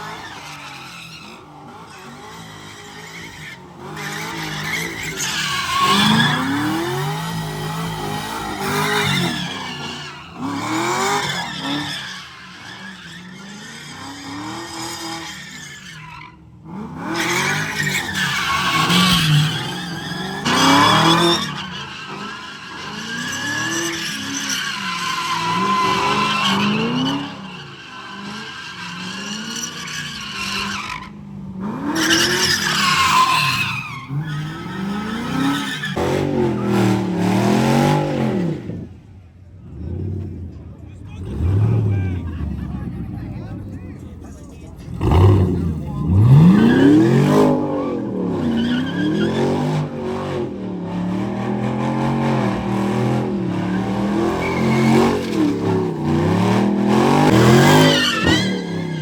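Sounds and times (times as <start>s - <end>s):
tyres squealing: 0.0s - 16.4s, 17.2s - 37.2s, 41.0s - 49.7s, 53.6s - 59.0s
car engines revving: 0.0s - 59.0s.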